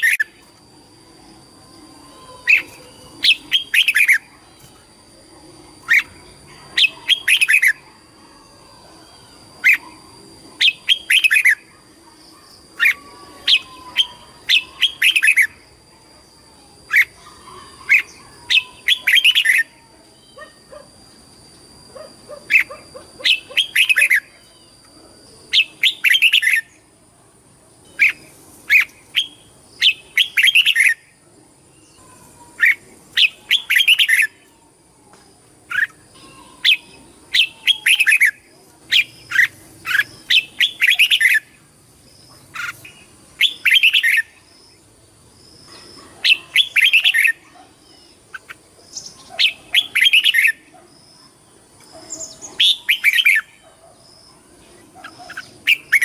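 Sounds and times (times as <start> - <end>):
bird chattering song: 0.0 - 0.4, 2.1 - 4.6, 5.6 - 8.5, 9.4 - 15.7, 16.8 - 20.9, 21.9 - 26.9, 27.9 - 34.6, 35.6 - 44.9, 45.5 - 56.0.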